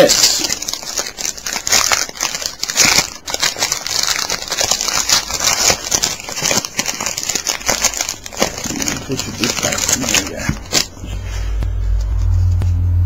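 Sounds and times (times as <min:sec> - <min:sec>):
plastic wrapping crinkling: 0:00.0 - 0:12.7.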